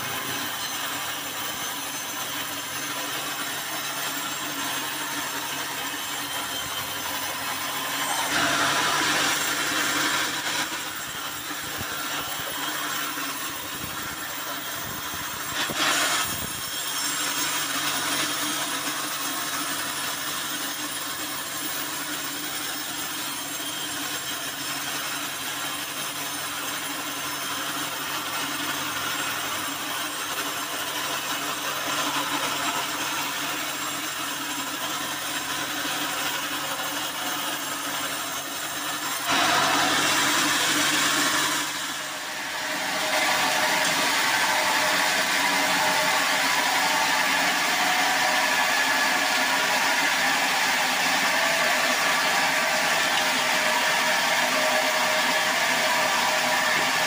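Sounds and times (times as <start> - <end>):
band saw sawing a log: 0.0 - 57.0.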